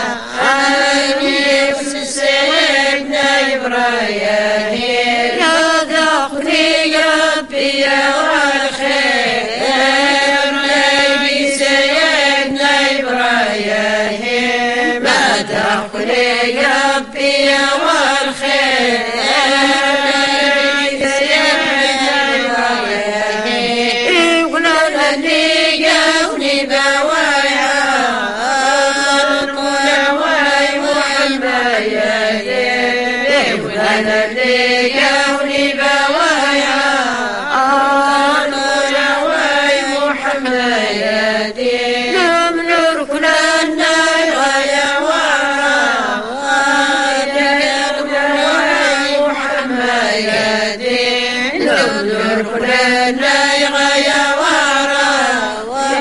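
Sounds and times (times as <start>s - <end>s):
women chanting a devotional song: 0.0s - 56.0s.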